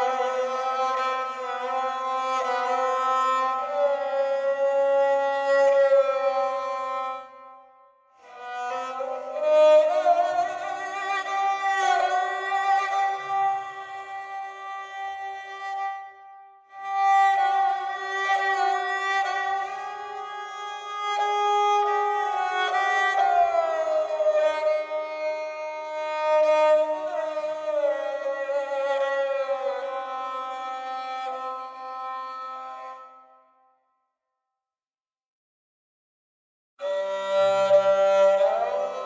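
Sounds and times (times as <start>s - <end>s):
bowed string melody: 0.0s - 7.3s, 8.2s - 16.0s, 16.7s - 33.1s, 36.8s - 39.0s.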